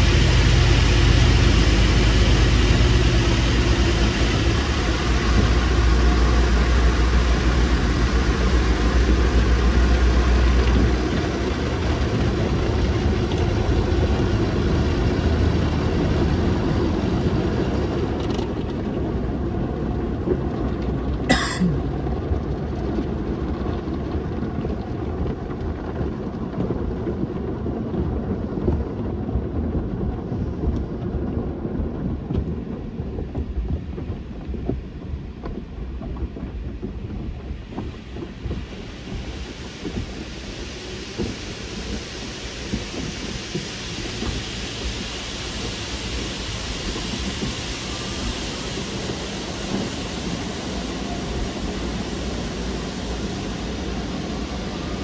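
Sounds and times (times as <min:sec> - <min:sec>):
low machinery rumble: 0:00.0 - 0:55.0.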